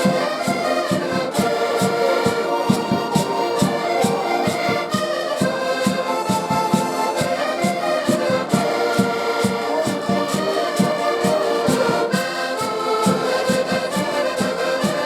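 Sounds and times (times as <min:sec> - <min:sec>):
live band melody: 0:00.0 - 0:15.0
steady drum beat: 0:00.0 - 0:15.0.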